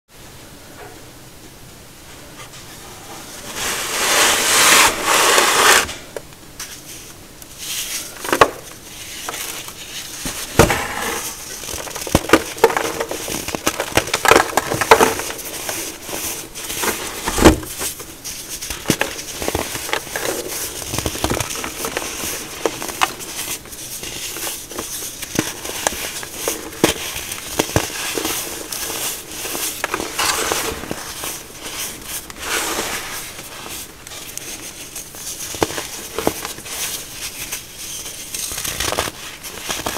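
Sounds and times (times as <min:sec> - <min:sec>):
powder crumbling and squeaking: 0:07.6 - 0:39.9.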